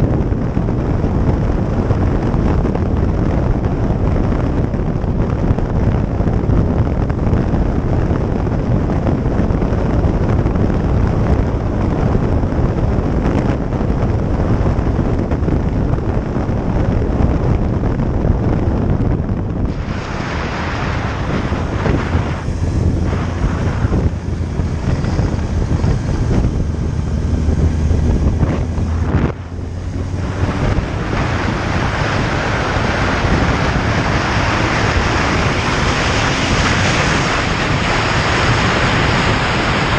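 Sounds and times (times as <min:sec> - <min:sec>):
low engine hum: 0:00.0 - 0:39.9
wind rushing over microphone: 0:00.0 - 0:39.9.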